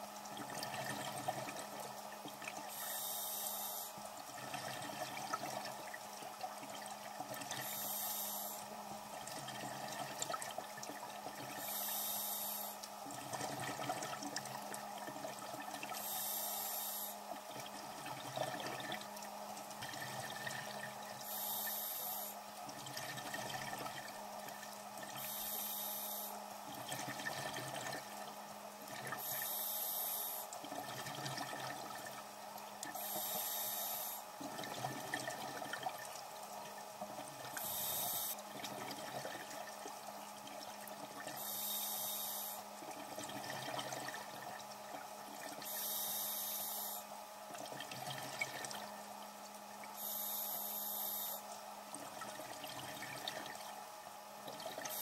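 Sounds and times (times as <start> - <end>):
exhaled bubbles underwater: 0.0 - 12.1, 12.7 - 29.6, 30.4 - 55.0
steady low hum: 0.0 - 55.0.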